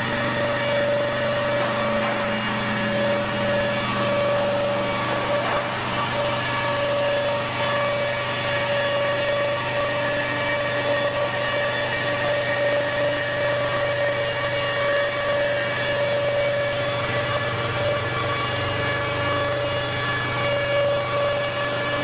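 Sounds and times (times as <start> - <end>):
spindle motor whining: 0.0 - 22.0.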